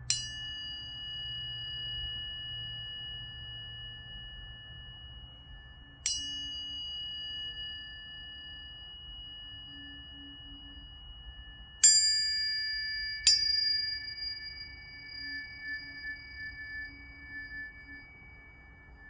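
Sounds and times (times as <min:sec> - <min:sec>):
tuning forks ringing: 0:00.0 - 0:19.0.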